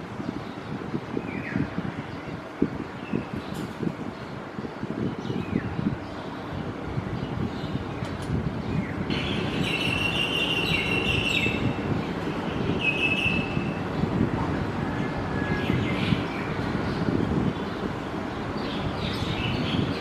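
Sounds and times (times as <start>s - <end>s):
birds chirping: 0.2s - 20.0s.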